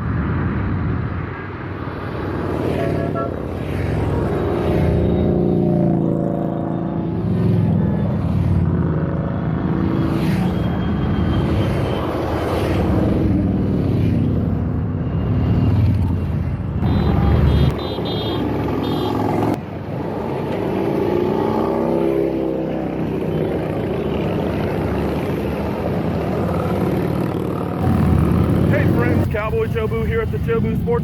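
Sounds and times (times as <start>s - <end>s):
motorcycles revving past: 0.6s - 16.2s, 16.8s - 29.4s.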